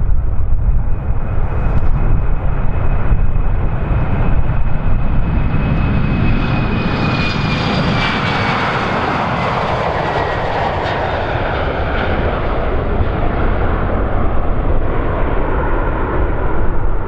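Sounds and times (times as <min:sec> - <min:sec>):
heavy low rumble: 0:00.0 - 0:17.0
jet engines roaring: 0:00.0 - 0:17.0.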